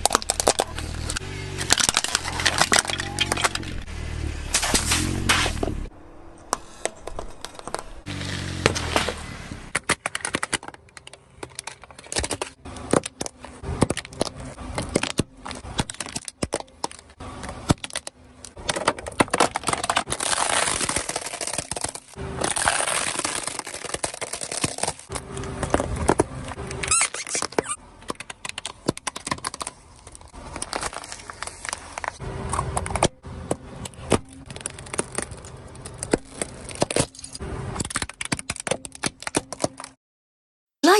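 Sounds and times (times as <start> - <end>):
dense crackling and crinkling: 0.0 - 3.9, 6.9 - 40.0.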